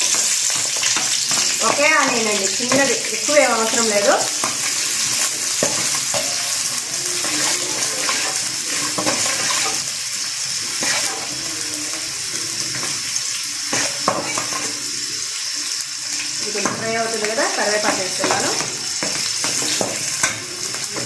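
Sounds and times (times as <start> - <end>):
metal spatula scraping pan: 0.0 - 12.0, 12.6 - 14.9, 17.6 - 21.0
onions sizzling in oil: 0.0 - 21.0.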